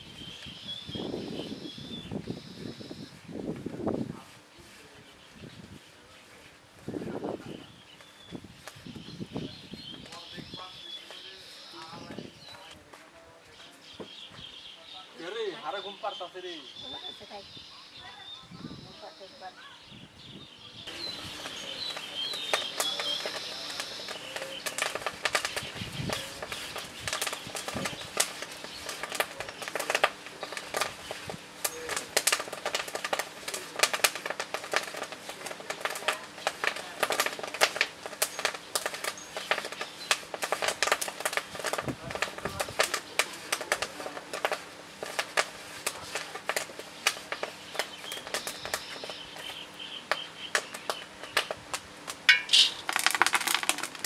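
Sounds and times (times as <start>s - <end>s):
fire crackling and popping: 0.0s - 14.6s, 20.8s - 54.0s
birds chirping: 0.0s - 44.2s, 45.0s - 54.0s.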